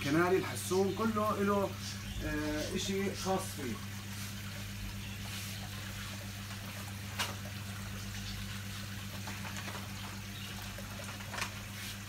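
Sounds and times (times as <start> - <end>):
low electrical hum: 0.0 - 12.0
trickling water: 0.0 - 12.0.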